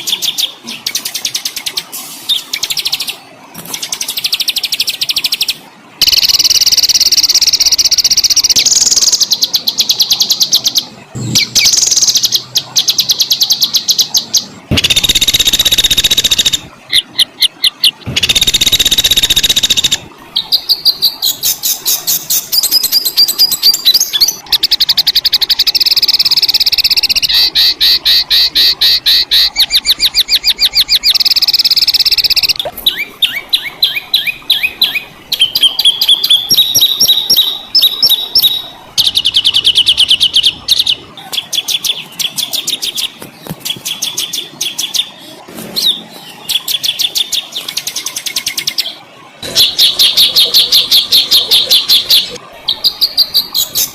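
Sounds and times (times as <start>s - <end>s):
recorded songbird song: 0.0s - 53.9s.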